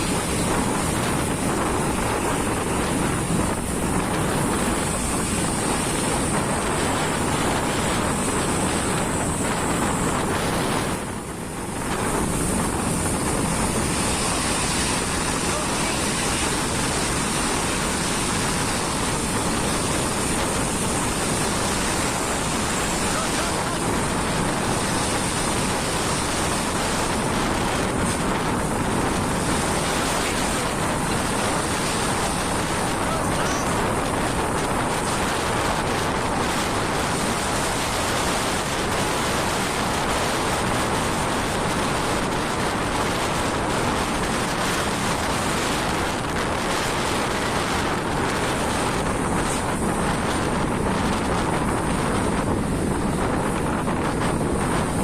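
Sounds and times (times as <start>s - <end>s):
truck driving: 0.0s - 55.0s
tyres hissing on wet road: 0.0s - 55.0s
wind noise: 0.0s - 55.0s.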